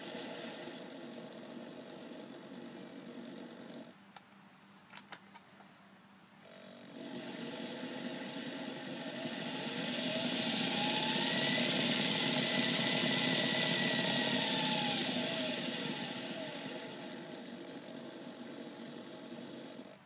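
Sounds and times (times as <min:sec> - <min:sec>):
model train motor whine: 0:00.0 - 0:03.9, 0:06.8 - 0:20.0.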